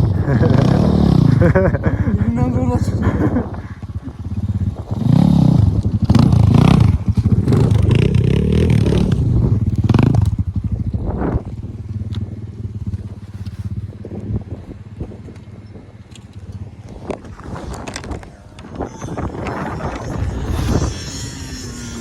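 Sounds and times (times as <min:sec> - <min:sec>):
motocross bike engine revving: 0:00.0 - 0:15.2, 0:16.4 - 0:22.0.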